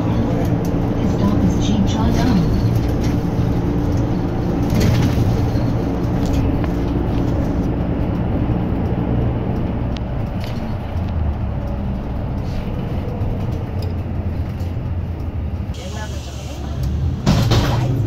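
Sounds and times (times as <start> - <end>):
bus engine drone: 0.0 - 18.0
road noise: 0.0 - 18.0.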